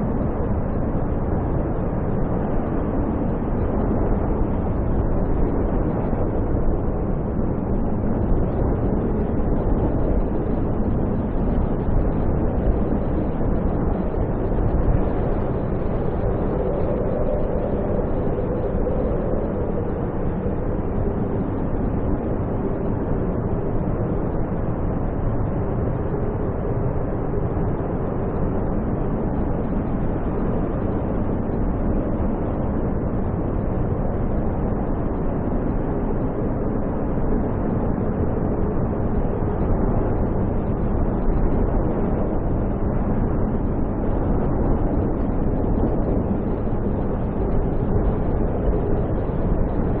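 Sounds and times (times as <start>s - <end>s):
snowstorm wind blowing: 0.0s - 50.0s.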